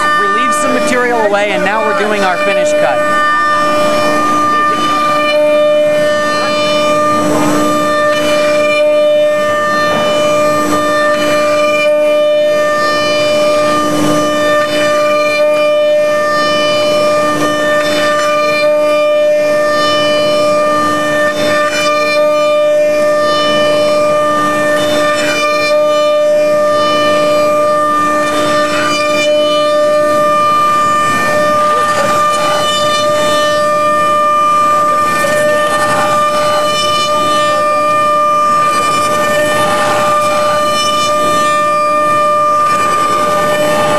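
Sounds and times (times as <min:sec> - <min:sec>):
router spindle high whine: 0:00.0 - 0:43.9.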